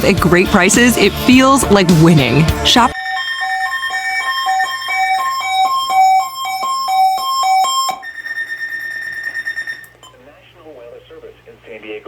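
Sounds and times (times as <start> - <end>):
electronic keyboard melody: 0.0 - 10.0.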